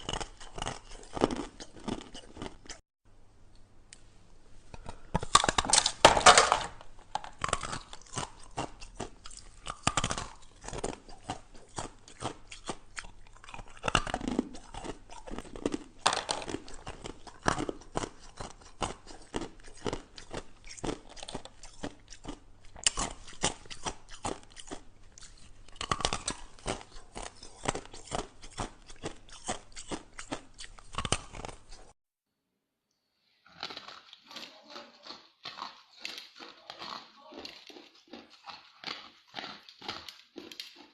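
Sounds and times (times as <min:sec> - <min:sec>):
ice crunching being chewed: 0:00.0 - 0:02.8, 0:04.8 - 0:32.0, 0:33.4 - 0:40.9.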